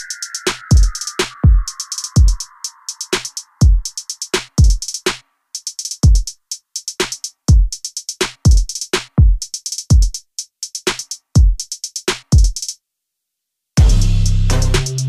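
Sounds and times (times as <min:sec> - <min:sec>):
electronic music drum-machine beat: 0:00.0 - 0:12.8, 0:13.8 - 0:15.0.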